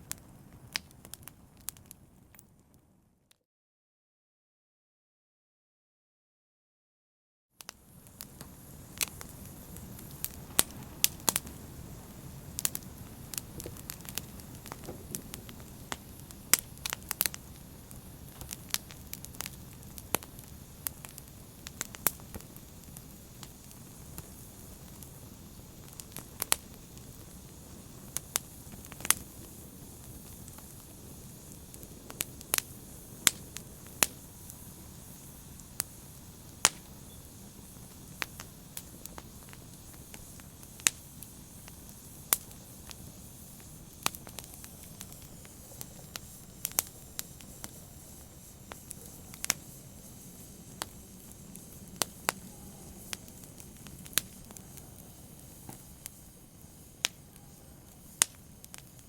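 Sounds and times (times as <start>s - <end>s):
fire crackling and popping: 0.0s - 3.0s, 7.6s - 59.0s
fire rumbling and hissing: 0.0s - 3.0s, 7.6s - 59.0s.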